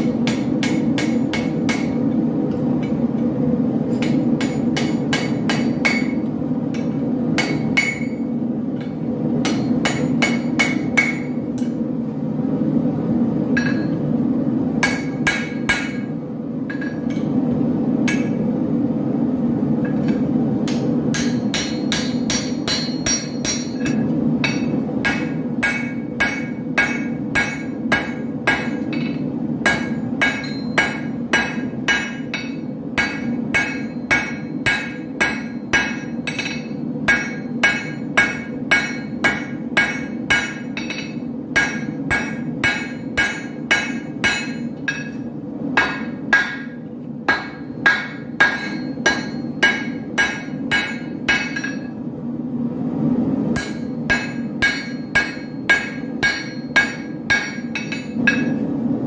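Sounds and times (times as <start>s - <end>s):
hammer striking blade on anvil: 0.0s - 3.0s, 3.9s - 11.8s, 13.5s - 14.0s, 14.8s - 16.1s, 16.7s - 17.4s, 18.0s - 18.4s, 19.8s - 52.0s, 53.5s - 58.7s
steady low hum: 0.0s - 59.0s.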